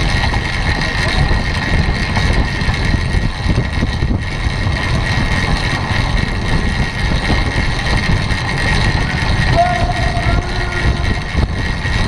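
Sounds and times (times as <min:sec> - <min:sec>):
steady high whine: 0:00.0 - 0:12.0
tyre and drivetrain noise: 0:00.0 - 0:12.0
wind rumble on microphone: 0:00.0 - 0:12.0.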